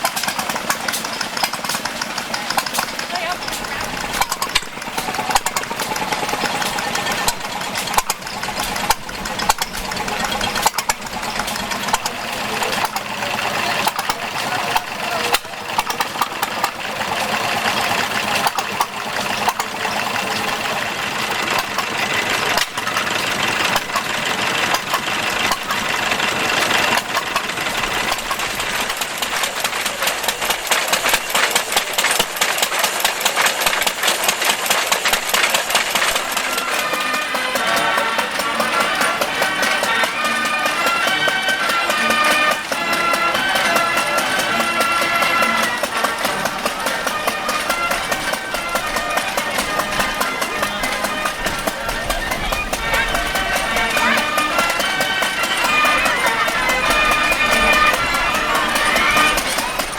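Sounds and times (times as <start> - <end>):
stationary engines running: 0.0 - 59.9.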